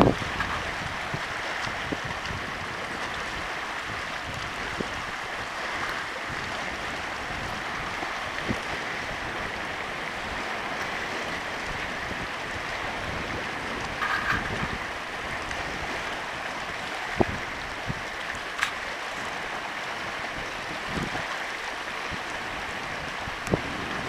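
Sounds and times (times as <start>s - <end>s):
waves lapping against rocks: 0.0s - 24.0s.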